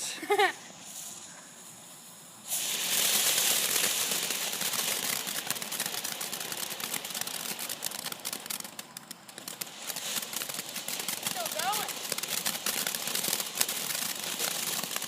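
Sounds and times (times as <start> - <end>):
firework hissing and crackling: 0.0 - 15.0.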